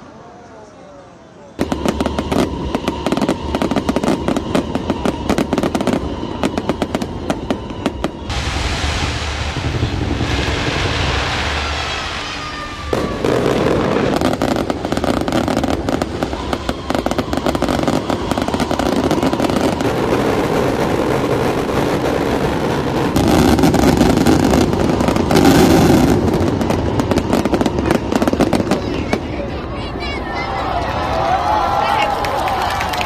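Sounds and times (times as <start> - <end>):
firework whistles falling in pitch: 1.6 - 28.9
firework bangs and crackling: 1.6 - 30.2.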